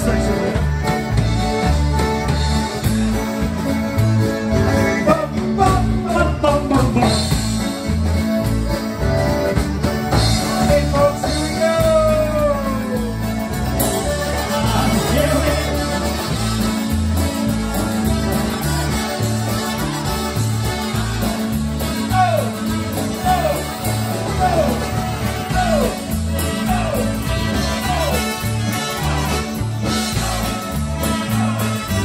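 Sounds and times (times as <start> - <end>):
drum kit steady beat: 0.0 - 32.0
electric bass guitar: 0.0 - 32.0.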